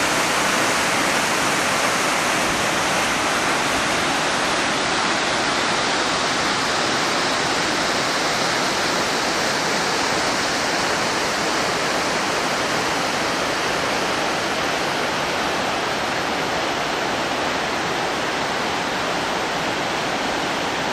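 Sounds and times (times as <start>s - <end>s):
river rushing over boulders: 0.0s - 20.9s.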